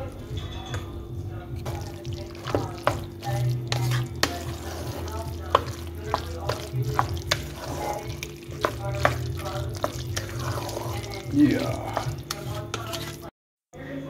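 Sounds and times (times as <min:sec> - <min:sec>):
spoon clacking against pot: 0:01.6 - 0:13.3
spoon stirring thick pasta: 0:01.6 - 0:13.3.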